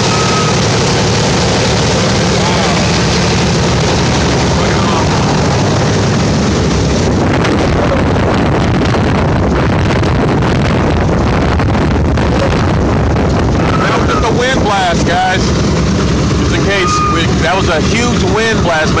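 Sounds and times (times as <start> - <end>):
propeller wash buffeting microphone: 0.0 - 19.0
radial aircraft engines running: 0.0 - 19.0.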